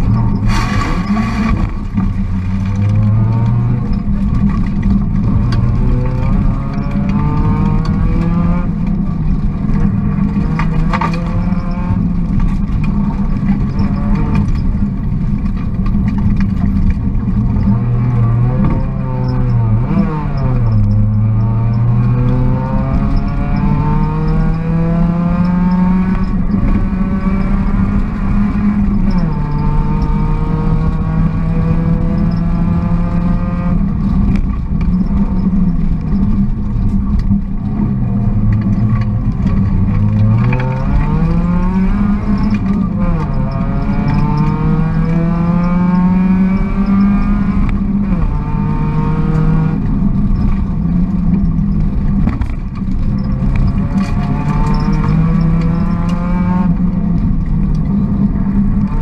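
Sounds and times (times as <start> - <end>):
car engine accelerating: 0.0 - 59.0
tyre and road noise: 0.0 - 59.0.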